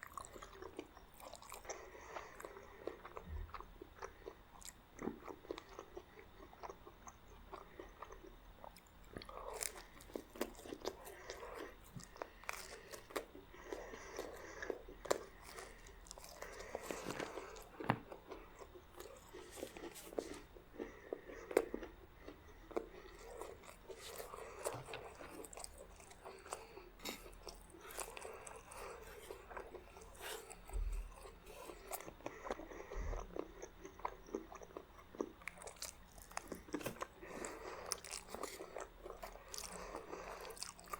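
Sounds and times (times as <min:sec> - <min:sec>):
close chewing and biting: 0:00.0 - 0:40.9.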